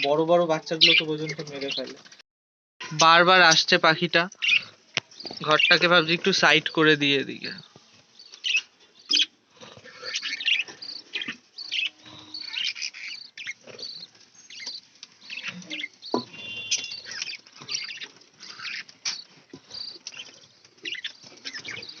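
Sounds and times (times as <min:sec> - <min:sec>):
budgerigars chattering and chirping: 0:00.8 - 0:02.0, 0:03.0 - 0:07.6, 0:08.2 - 0:22.0.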